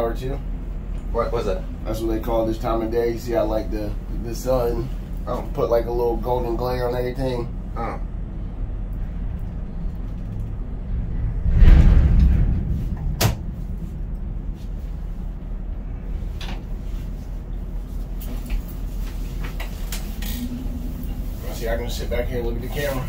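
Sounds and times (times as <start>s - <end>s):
crane machinery drone: 0.0s - 23.0s.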